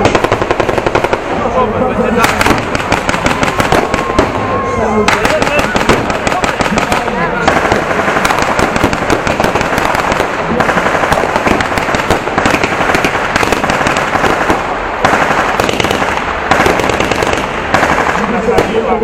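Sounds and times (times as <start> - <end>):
rapid blank gunfire: 0.0 - 1.6, 2.2 - 4.4, 5.1 - 19.0.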